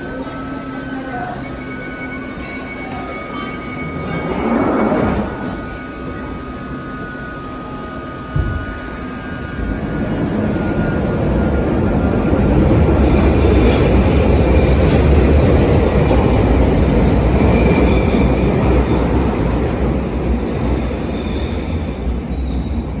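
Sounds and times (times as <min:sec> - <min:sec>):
faint high wheel squeal: 0:00.0 - 0:22.9
underground train rumbling: 0:00.0 - 0:23.0.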